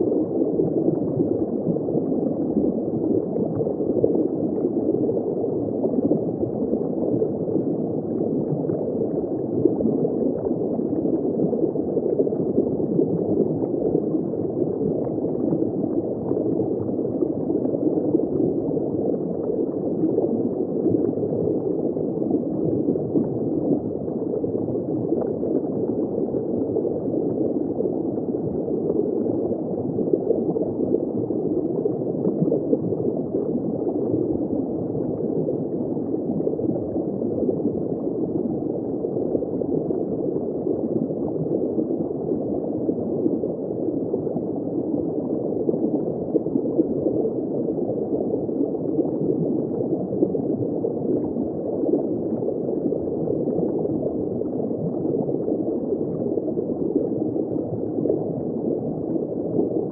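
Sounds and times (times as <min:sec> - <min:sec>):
muffled underwater bubbling: 0:00.0 - 0:59.9.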